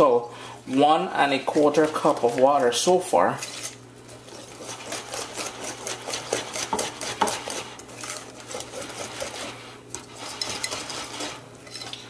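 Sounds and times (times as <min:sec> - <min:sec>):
whisk beating batter in glass bowl: 0:01.2 - 0:12.0.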